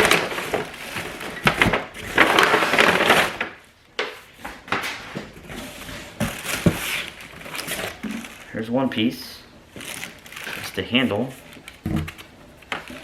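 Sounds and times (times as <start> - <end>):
cardboard and packing rustling: 0.0 - 13.0.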